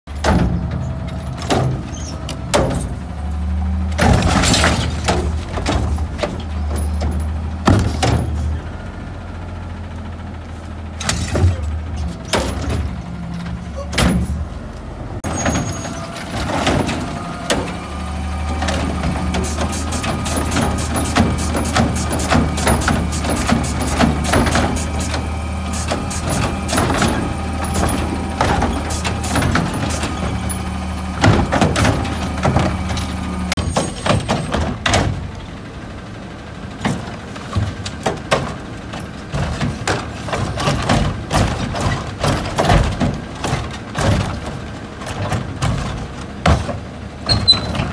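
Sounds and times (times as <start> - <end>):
metallic clanks and knocks: 0.1 - 3.0, 3.9 - 8.5, 11.0 - 14.5, 18.5 - 35.4, 36.8 - 47.9.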